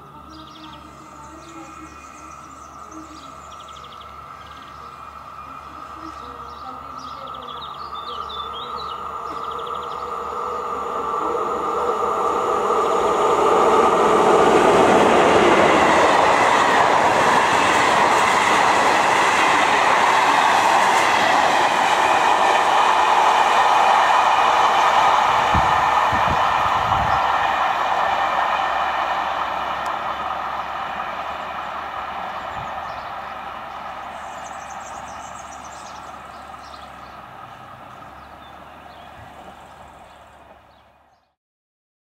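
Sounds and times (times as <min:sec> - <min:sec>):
train wheels rumbling on rails: 0:00.0 - 0:40.7
electric locomotive hum: 0:00.0 - 0:41.2.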